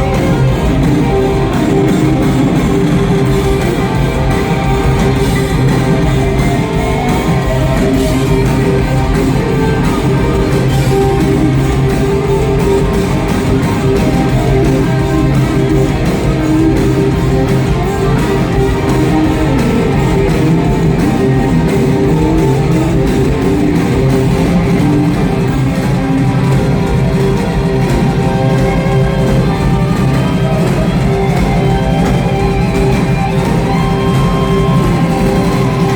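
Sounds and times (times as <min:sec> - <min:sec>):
electric guitar: 0:00.0 - 0:35.9
live rock band playing: 0:00.0 - 0:35.9.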